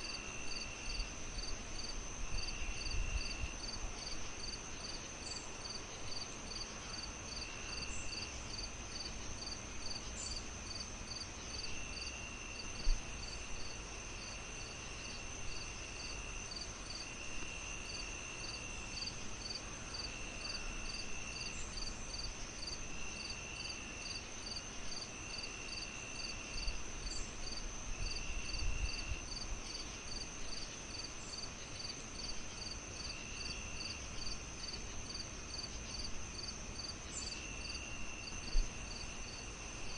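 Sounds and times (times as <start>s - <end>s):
crickets chirping: 0.0s - 39.9s
high insect drone: 0.0s - 39.9s
insect trills: 0.0s - 39.9s.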